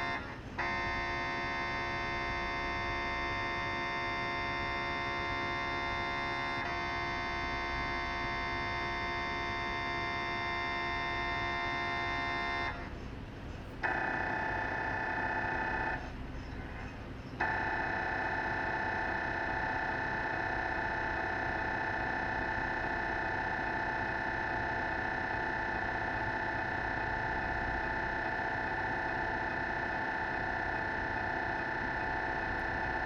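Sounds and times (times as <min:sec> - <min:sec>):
mri scanner humming: 0:00.0 - 0:33.0.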